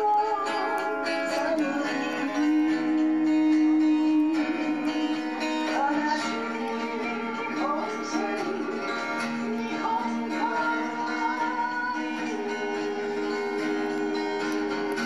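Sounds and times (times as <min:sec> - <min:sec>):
acoustic guitar: 0:00.0 - 0:15.0
woman singing into microphone: 0:00.0 - 0:15.0.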